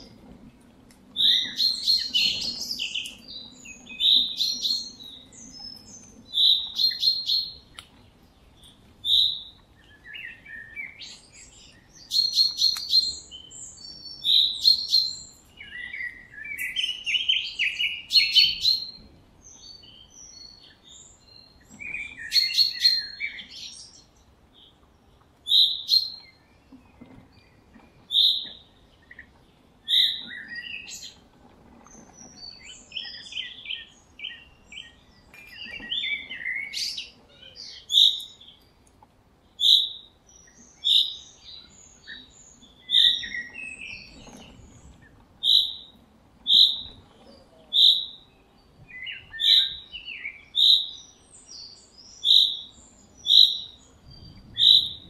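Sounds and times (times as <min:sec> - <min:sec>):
wild birds chirping and singing: 0:00.0 - 0:55.0.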